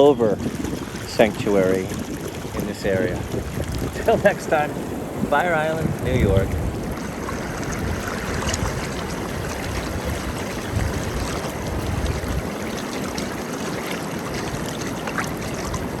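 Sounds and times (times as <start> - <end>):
surf and fast-flowing water: 0.0 - 16.0.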